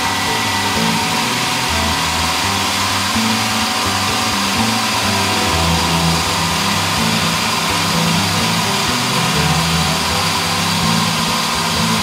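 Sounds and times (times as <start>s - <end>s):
stone saw drone: 0.0s - 12.0s.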